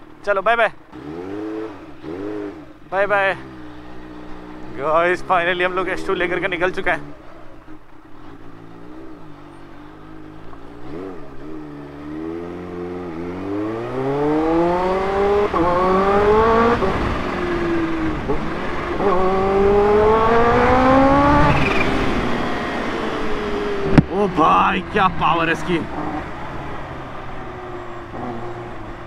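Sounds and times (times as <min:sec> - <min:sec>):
motorcycle engine accelerating: 0:00.8 - 0:29.0.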